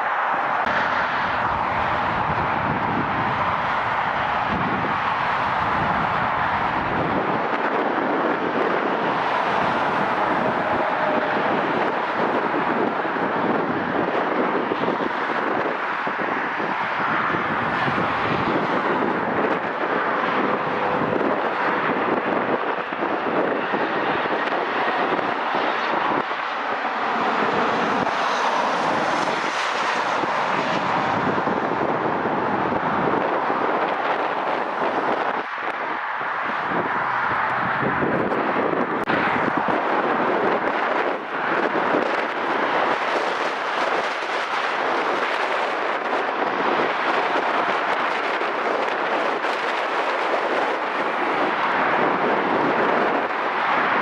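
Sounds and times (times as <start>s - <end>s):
airliner engines rushing: 0.0s - 54.0s.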